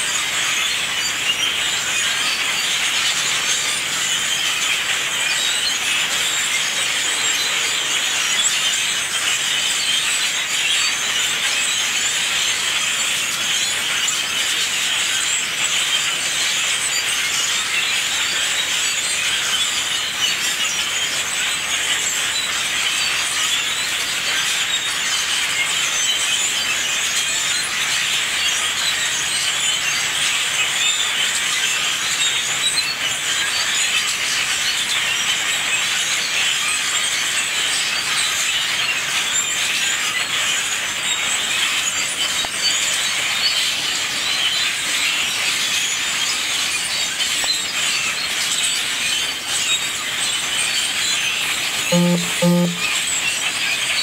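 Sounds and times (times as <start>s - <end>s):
flock of blackbirds calling: 0.0s - 54.0s.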